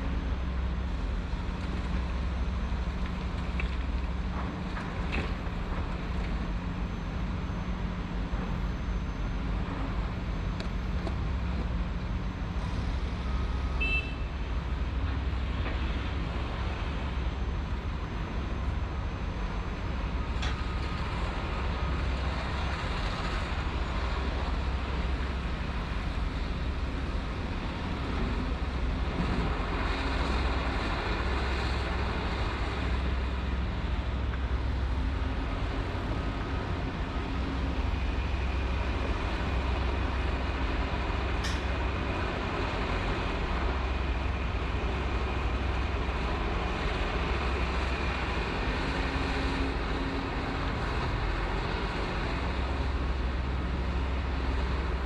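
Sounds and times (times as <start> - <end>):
construction machinery diesel rumble: 0.0 - 55.0.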